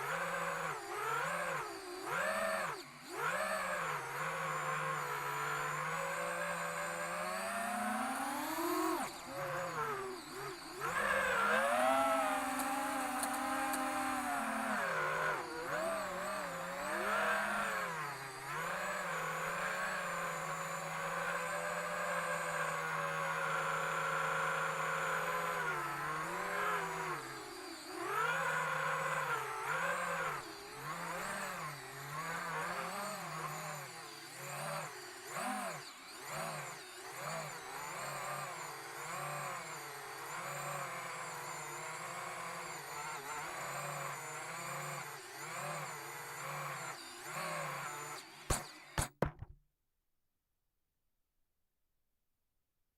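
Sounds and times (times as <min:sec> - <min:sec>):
drone motor whining: 0:00.0 - 0:49.0.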